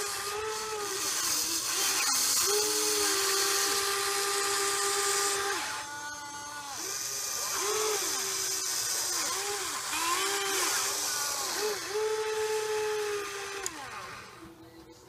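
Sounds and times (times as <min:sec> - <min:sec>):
toy excavator motors whining: 0:00.0 - 0:15.0.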